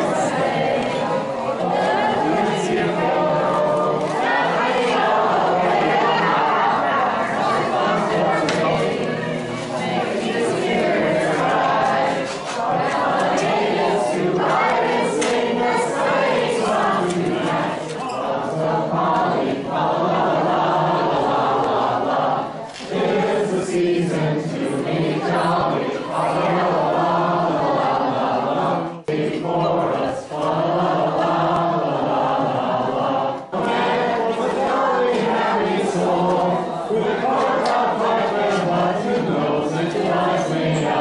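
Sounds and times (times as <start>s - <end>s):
group singing a carol in unison: 0.0s - 41.0s.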